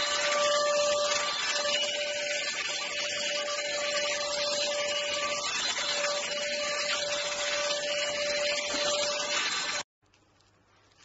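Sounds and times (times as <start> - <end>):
stick vacuum cleaner running: 0.0 - 9.8.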